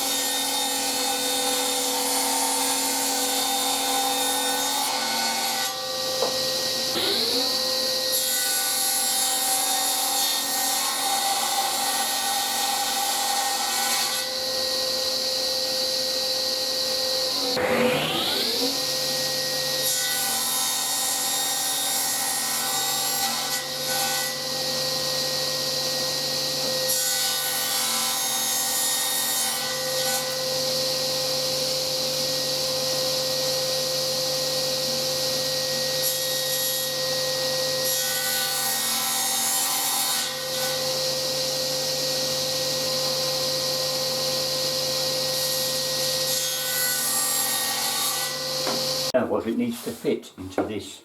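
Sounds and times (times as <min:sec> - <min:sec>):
power tool cutting wood: 0:00.0 - 0:50.2.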